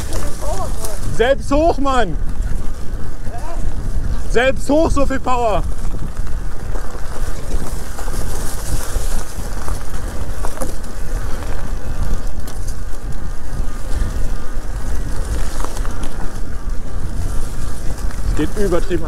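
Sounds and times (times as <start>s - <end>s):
tyres rumbling over ground: 0.0s - 19.0s
wind on microphone: 0.0s - 19.0s.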